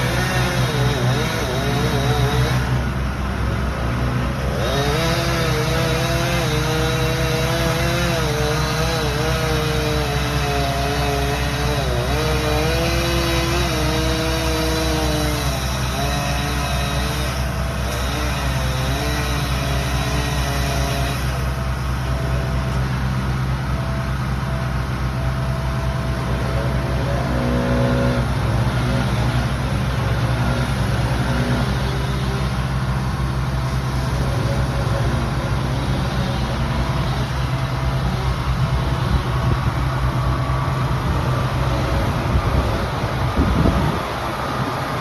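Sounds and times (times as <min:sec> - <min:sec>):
large engine running loudly: 0:00.0 - 0:45.0.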